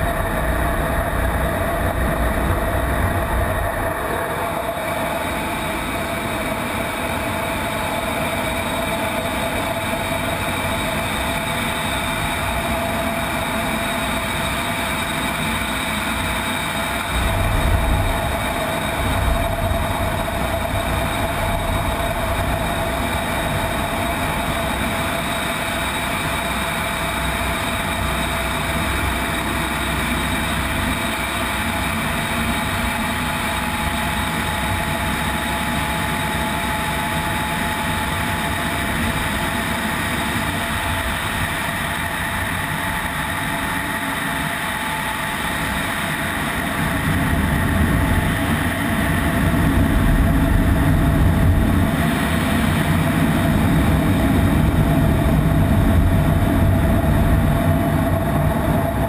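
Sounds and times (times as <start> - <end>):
constant whining tones: 0.0 - 59.0
jet engine and airflow noise: 0.0 - 59.0.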